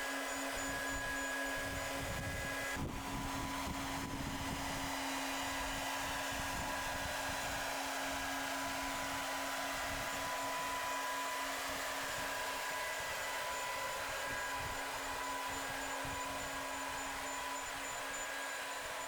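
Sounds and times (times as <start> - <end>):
steady mechanical whir: 0.0 - 19.0.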